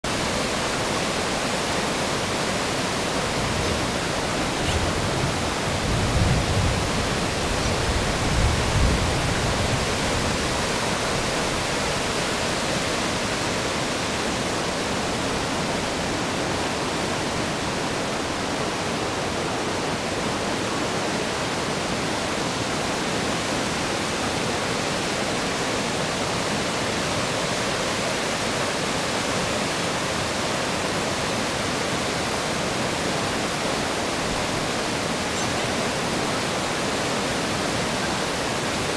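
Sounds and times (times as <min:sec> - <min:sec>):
fast water rushing: 0:00.0 - 0:38.9.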